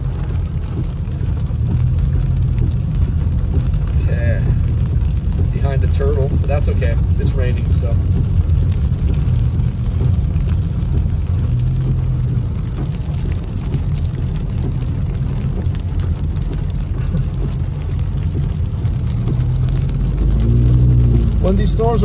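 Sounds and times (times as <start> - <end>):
car engine and tyres rumbling: 0.0 - 22.0
rain hitting car roof: 0.0 - 22.0.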